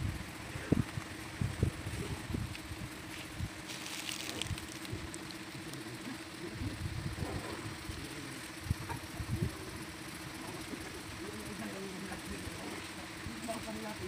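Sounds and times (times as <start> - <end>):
air compressor motor humming: 0.0 - 14.0.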